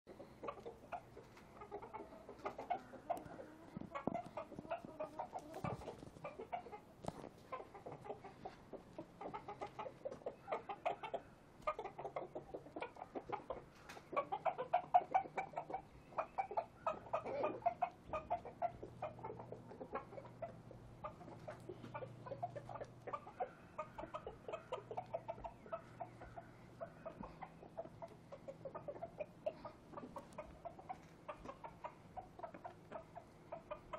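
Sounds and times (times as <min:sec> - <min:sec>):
chickens clucking: 0:00.1 - 0:33.9.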